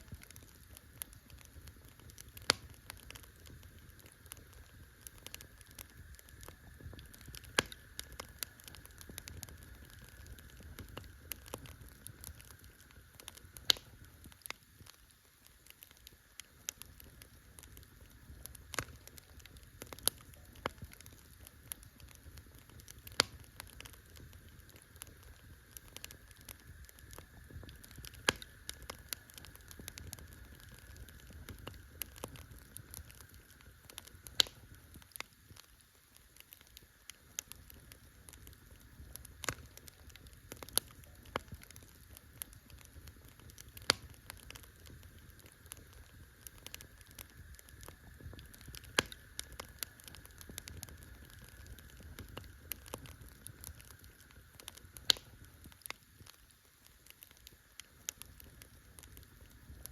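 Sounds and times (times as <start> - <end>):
campfire pops and snaps: 0.0 - 59.9
low rumble of burning: 0.0 - 59.9.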